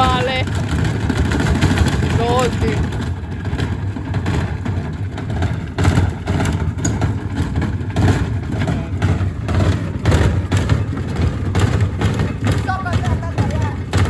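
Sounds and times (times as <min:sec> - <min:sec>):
bricks knocking in drum: 0:00.0 - 0:14.0
washing machine low rumble: 0:00.0 - 0:14.0.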